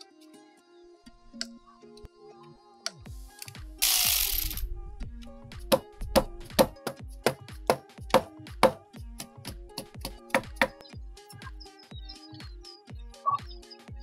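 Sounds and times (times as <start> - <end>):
background music with steady beat: 0.0 - 14.0.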